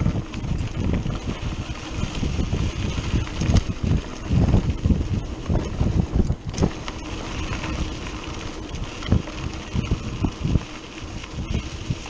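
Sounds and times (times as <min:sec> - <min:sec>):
bike thumping over bumps: 0:00.0 - 0:11.8
wind buffeting microphone: 0:00.0 - 0:12.0.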